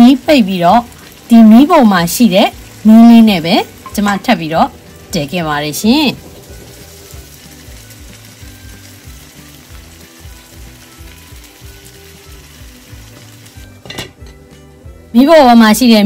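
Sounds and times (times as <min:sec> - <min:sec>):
curry sizzling in frying pan: 0:00.0 - 0:16.0.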